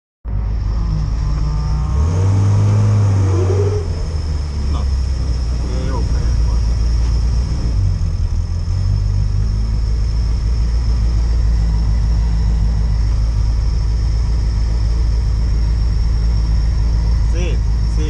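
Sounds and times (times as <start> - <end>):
car engine idling: 0.3 - 18.0.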